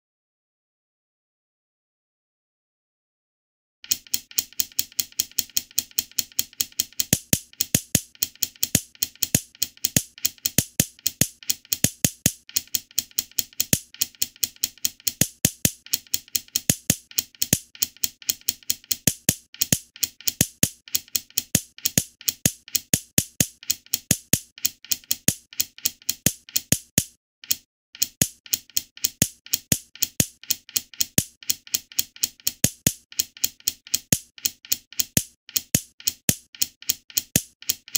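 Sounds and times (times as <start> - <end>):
sharp wooden click effect: 3.8 - 37.9.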